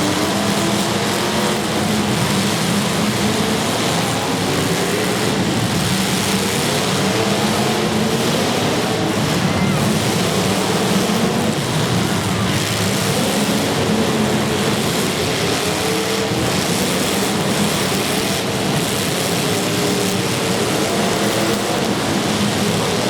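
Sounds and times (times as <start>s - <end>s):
many car engines revving: 0.0s - 23.0s.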